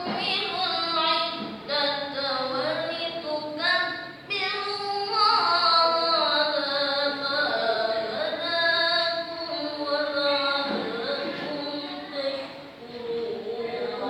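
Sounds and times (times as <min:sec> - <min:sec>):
person reciting melodically: 0:00.0 - 0:14.0.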